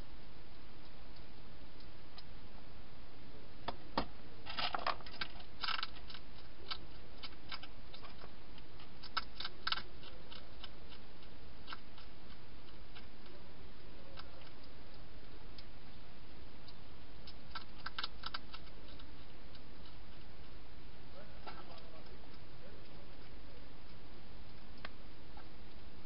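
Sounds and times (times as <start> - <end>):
hedgehog crunching food: 4.5 - 25.9.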